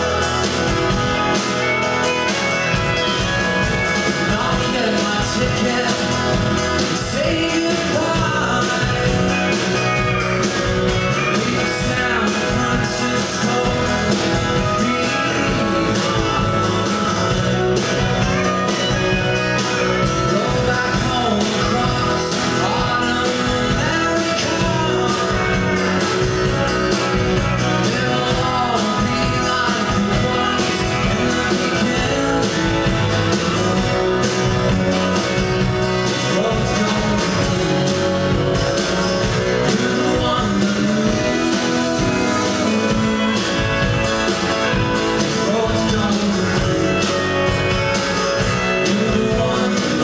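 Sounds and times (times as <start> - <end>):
drums: 0.0 - 50.0
strummed acoustic guitars: 0.0 - 50.0
man singing: 3.1 - 50.0.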